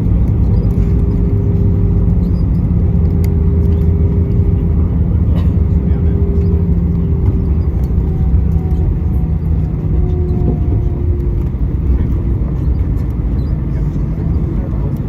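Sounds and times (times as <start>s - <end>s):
low rumble of wheels and engines: 0.0s - 15.0s
shifting hums: 0.0s - 15.0s.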